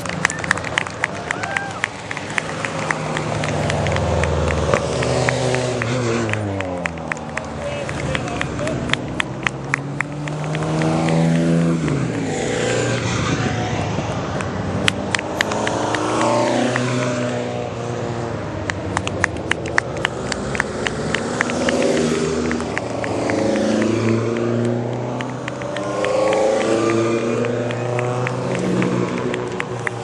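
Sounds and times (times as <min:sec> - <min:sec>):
race car engines revving past: 0:00.0 - 0:30.0.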